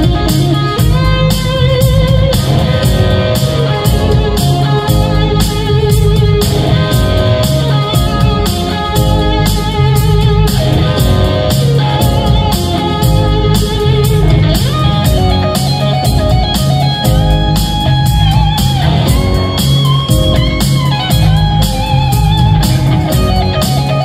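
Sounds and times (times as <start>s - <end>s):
distorted electric guitar solo: 0.0s - 24.0s
drums: 0.0s - 24.0s
keyboard: 0.0s - 24.0s.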